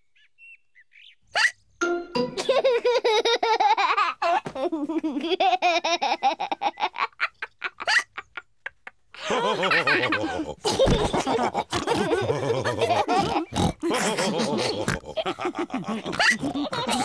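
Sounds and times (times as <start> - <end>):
cartoon characters laughing: 2.3 - 17.0.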